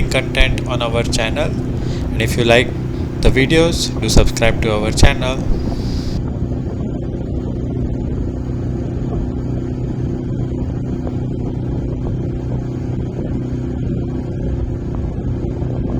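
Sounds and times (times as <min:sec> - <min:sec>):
steady low engine drone: 0:00.0 - 0:15.9.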